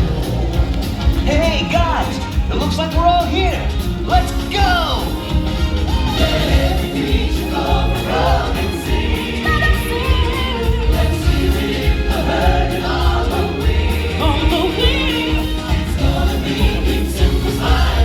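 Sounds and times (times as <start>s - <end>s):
choir singing with vibrato: 0.0s - 1.3s, 3.8s - 18.0s
pulsing bass beat: 0.0s - 18.0s.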